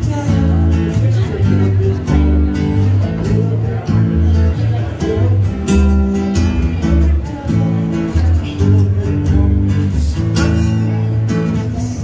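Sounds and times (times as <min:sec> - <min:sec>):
acoustic guitar strummed: 0:00.0 - 0:12.0
electric bass low notes: 0:00.0 - 0:12.0.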